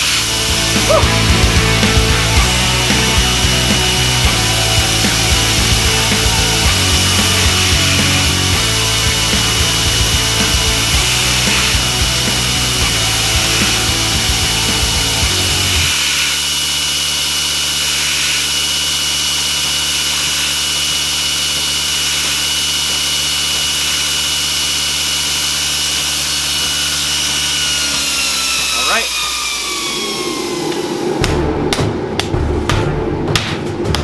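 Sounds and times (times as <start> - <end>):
belt grinder whining: 0.0 - 31.3.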